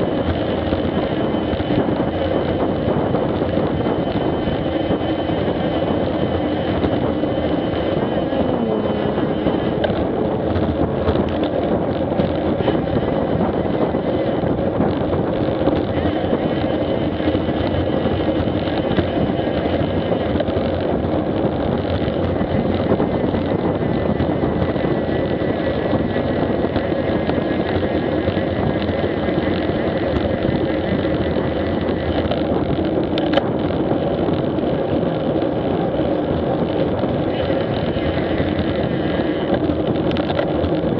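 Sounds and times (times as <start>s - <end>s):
road and machine drone: 0.0s - 40.9s
wind buffeting microphone: 0.0s - 40.9s.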